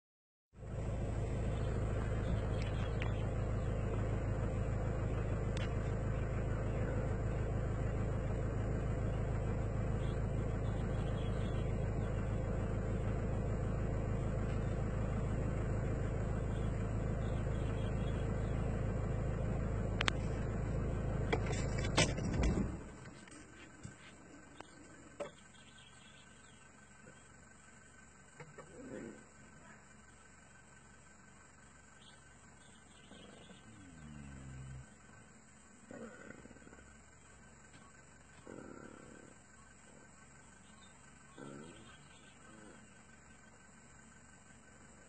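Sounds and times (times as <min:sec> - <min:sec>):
car engine idling: 0:00.6 - 0:45.0.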